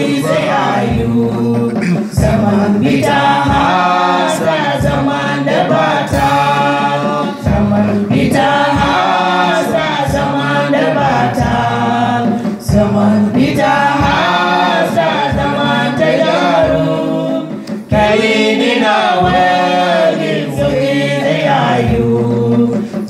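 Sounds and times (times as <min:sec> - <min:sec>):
group singing gospel song: 0:00.0 - 0:23.0
steady low beat: 0:00.0 - 0:23.0.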